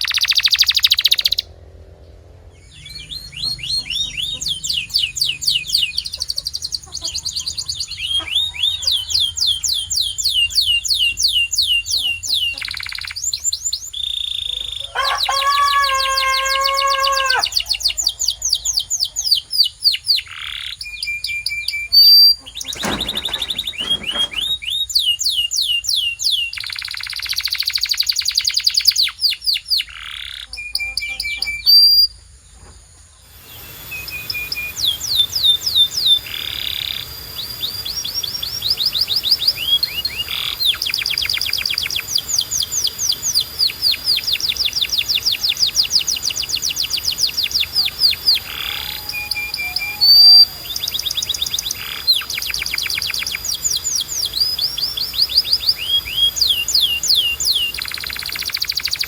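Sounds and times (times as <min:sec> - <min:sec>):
canary singing trills: 0:00.0 - 0:32.3, 0:33.2 - 0:59.0.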